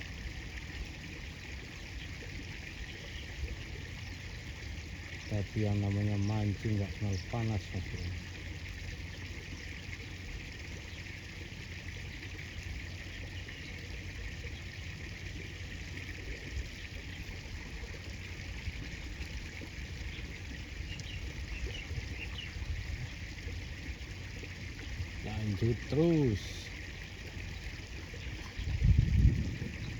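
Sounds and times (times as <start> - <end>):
river water flowing: 0.0 - 29.9.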